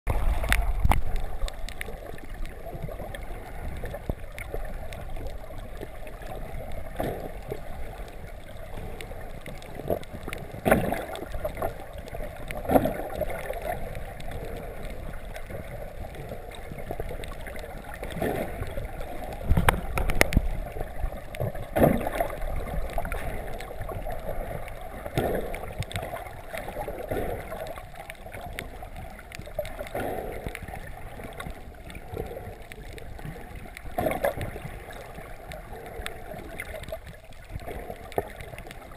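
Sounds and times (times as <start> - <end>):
water sloshing underwater: 0.1 - 38.9.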